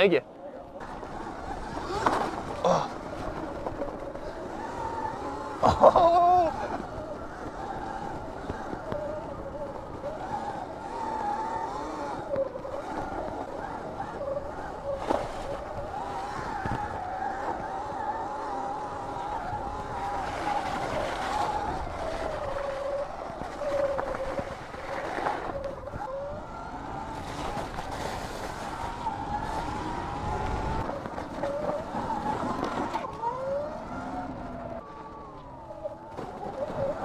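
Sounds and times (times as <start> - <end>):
electric motor whining: 0.8 - 37.0.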